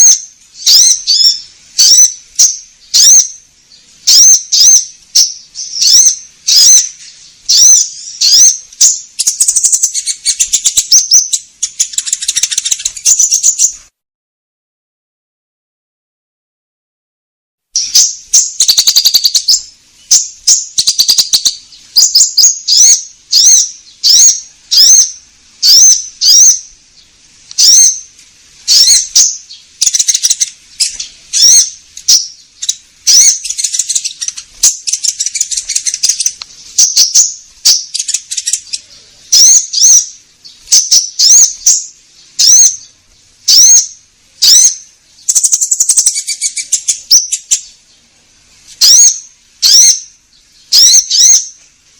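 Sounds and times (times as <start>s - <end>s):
sunbird chirping and twittering: 0.0s - 14.0s, 17.7s - 51.9s.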